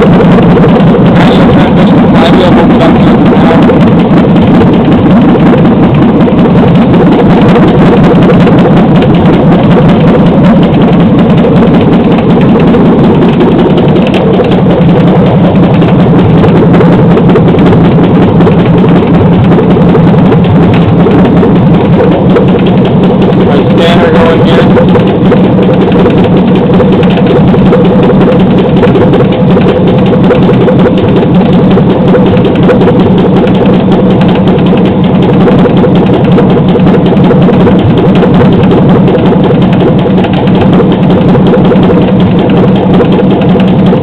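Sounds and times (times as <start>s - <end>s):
engine idling with ticking knock: 0.0s - 44.0s.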